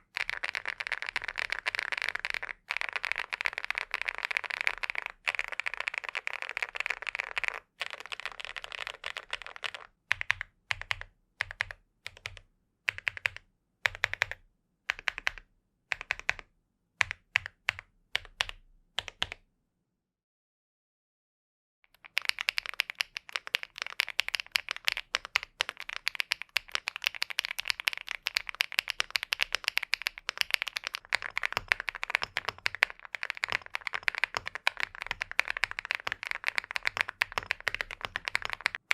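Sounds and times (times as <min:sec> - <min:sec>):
mechanical keyboard typing: 0:00.0 - 0:16.4, 0:17.0 - 0:19.4, 0:21.9 - 0:38.9.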